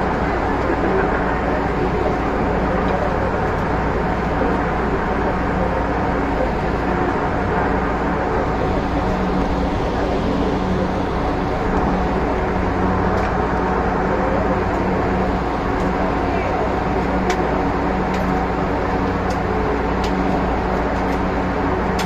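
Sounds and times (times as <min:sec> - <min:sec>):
train running on track: 0:00.0 - 0:22.0.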